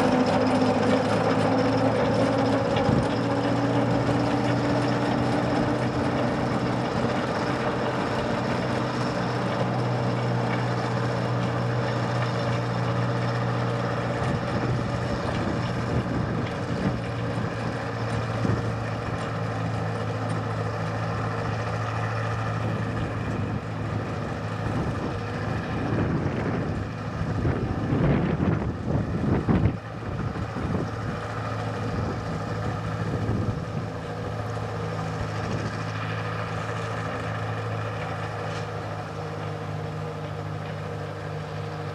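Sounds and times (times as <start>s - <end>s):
locomotive diesel engine hum: 0.0s - 41.9s.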